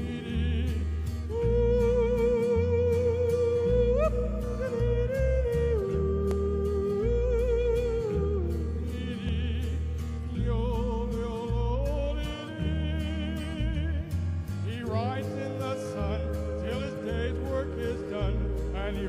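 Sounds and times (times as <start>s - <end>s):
country music accompaniment: 0.0s - 19.0s
man yodel-style singing: 0.0s - 19.0s.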